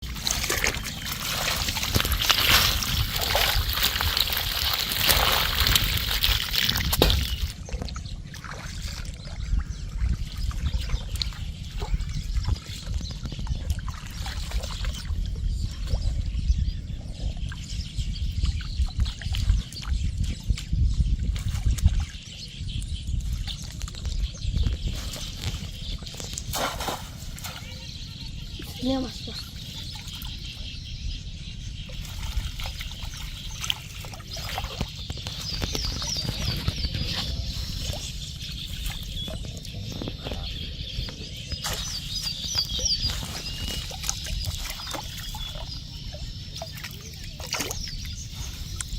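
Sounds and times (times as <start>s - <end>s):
water trickling and splashing: 0.0s - 16.4s, 18.4s - 30.8s, 31.6s - 48.9s
low microphone rumble: 0.0s - 48.9s.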